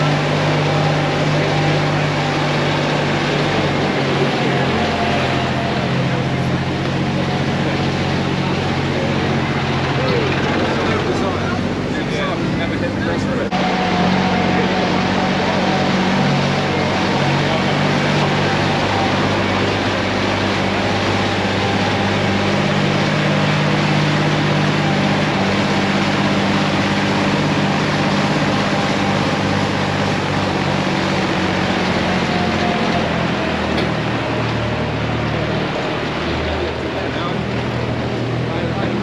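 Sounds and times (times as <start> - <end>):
tractor engine running: 0.0 - 39.0
trailer ride rumble: 0.0 - 39.0.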